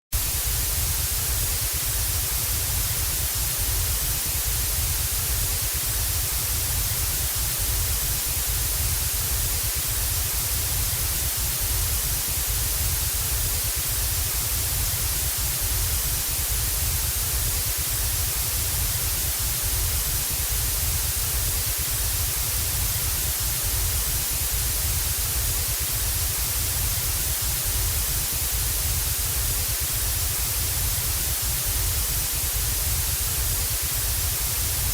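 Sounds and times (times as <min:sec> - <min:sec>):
television static hiss: 0:00.2 - 0:34.9.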